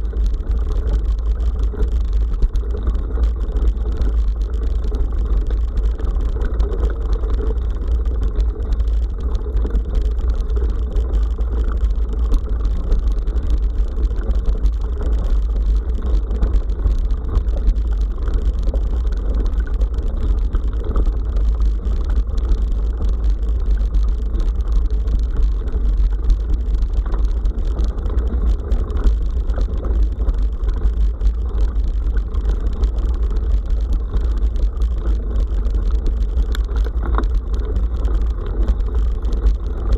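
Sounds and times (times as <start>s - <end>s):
bicycle tyres rolling on dirt: 0.0s - 39.9s.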